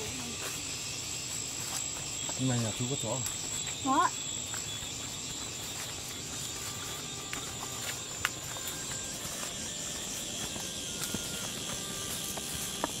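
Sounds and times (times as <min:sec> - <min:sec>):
insects chirring: 0:00.0 - 0:13.0
footsteps on dirt path: 0:00.2 - 0:02.6, 0:03.3 - 0:13.0.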